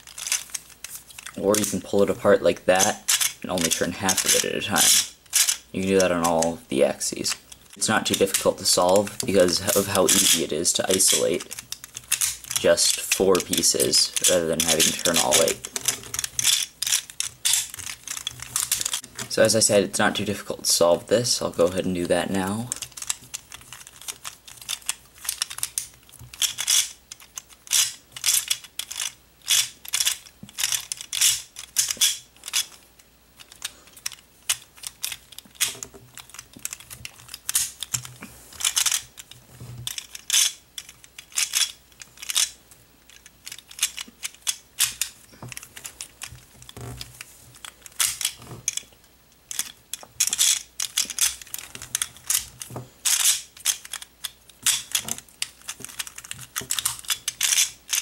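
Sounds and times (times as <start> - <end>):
plastic puzzle clicking and clacking: 0.0 - 2.1, 2.7 - 6.6, 7.2 - 19.3, 22.4 - 32.8, 33.4 - 58.0.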